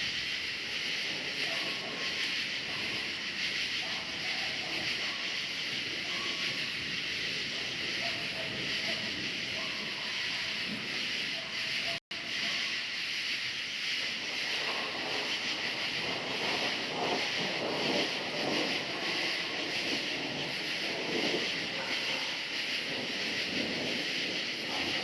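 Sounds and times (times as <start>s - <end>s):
crickets chirring: 0.0s - 25.0s
rushing noise: 0.0s - 25.0s.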